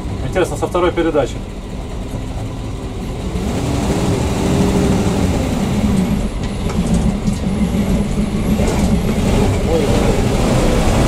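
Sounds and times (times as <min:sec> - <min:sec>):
bus engine pulling away: 0:00.0 - 0:11.0.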